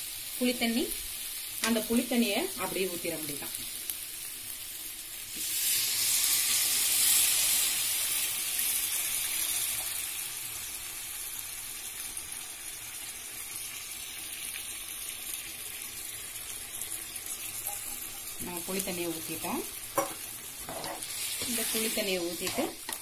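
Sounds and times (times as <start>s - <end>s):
liquid sizzling in hot pan: 0.0s - 23.0s.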